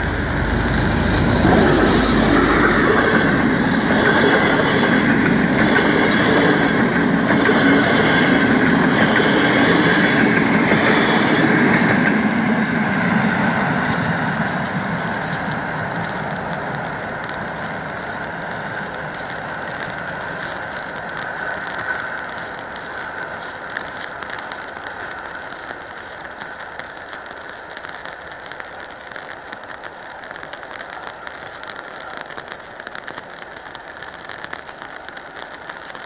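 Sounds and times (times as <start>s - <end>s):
train low rumble: 0.0s - 36.0s
wheels hissing on rails: 0.0s - 36.0s.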